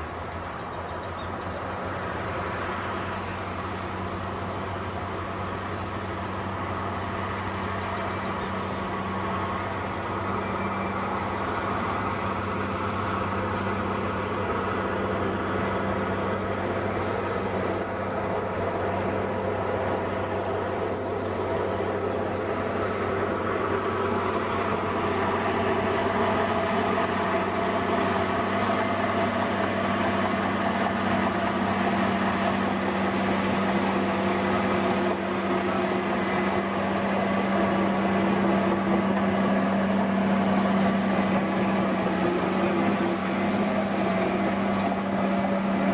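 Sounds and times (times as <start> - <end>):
bulldozer diesel engine drone: 0.0 - 45.9.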